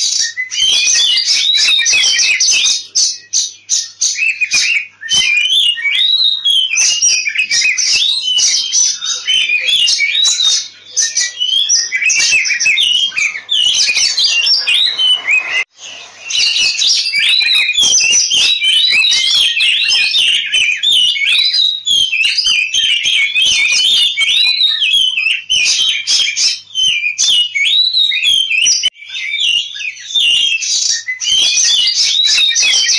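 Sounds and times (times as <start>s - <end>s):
bird singing whistles and rasps: 0.0s - 32.9s.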